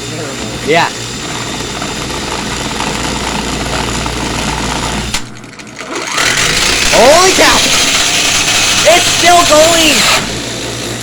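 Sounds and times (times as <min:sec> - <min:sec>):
angle grinder motor running: 0:00.0 - 0:11.0.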